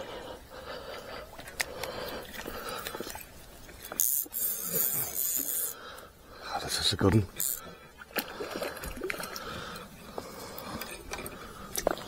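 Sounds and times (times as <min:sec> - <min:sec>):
fish splashing and thrashing: 0:00.0 - 0:06.5, 0:07.1 - 0:12.0.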